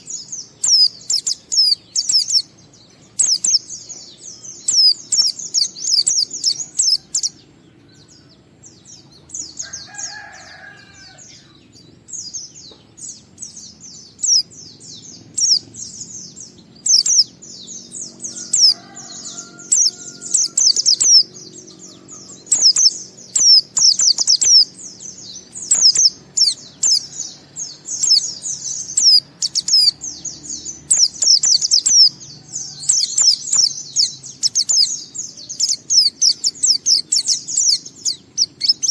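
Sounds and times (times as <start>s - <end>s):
bird singing twittering phrases: 0.0s - 38.9s
fainter lower bird call: 0.0s - 38.9s.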